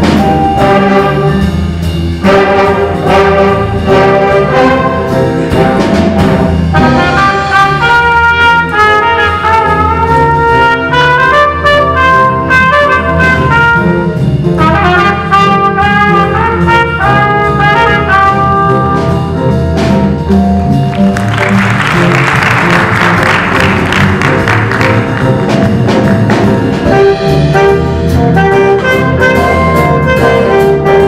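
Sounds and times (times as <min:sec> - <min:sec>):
jazz big band playing: 0:00.0 - 0:31.0.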